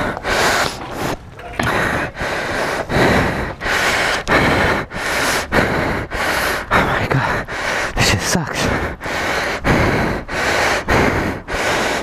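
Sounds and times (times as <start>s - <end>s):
man panting hard: 0.0s - 12.0s.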